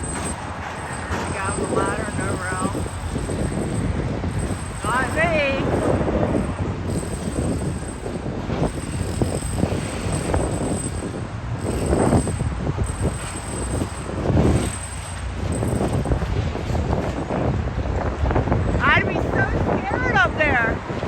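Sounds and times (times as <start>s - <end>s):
traffic rumble: 0.0s - 21.0s
vehicles passing: 0.0s - 21.0s.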